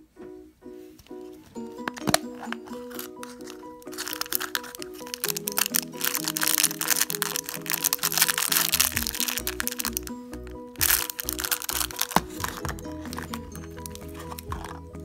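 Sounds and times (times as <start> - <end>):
background music with simple melody: 0.0 - 15.0
plastic bag crinkling: 1.9 - 14.9.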